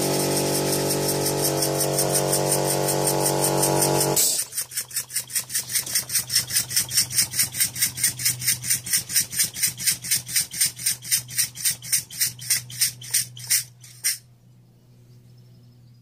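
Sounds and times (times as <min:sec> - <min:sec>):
model steam engine exhaust puffs: 0:00.0 - 0:14.2.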